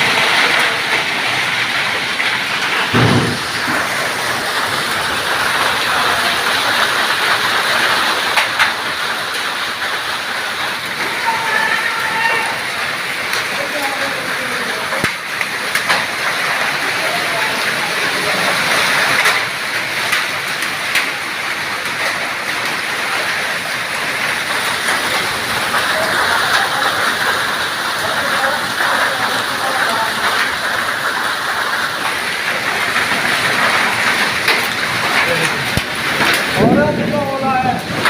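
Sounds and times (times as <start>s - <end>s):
heavy rain pouring: 0.0s - 38.0s.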